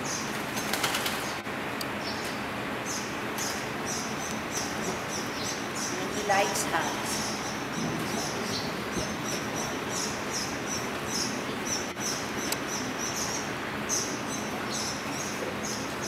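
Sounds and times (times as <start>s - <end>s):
small birds chirping: 0.0s - 16.0s
steady background hiss: 0.0s - 16.0s.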